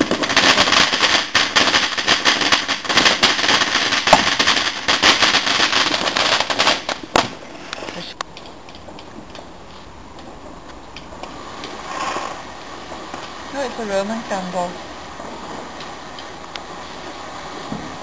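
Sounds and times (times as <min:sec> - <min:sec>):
firework crackling: 0:00.0 - 0:18.0
loud firework crack: 0:00.0 - 0:18.0.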